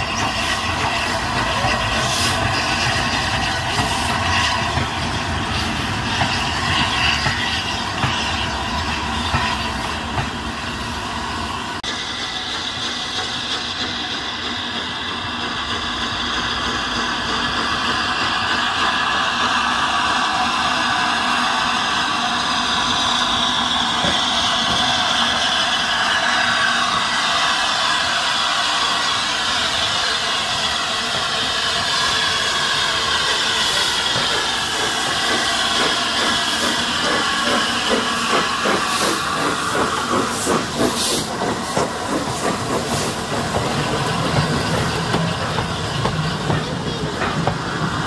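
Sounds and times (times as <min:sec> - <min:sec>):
steam locomotive hissing: 0:00.0 - 0:48.0.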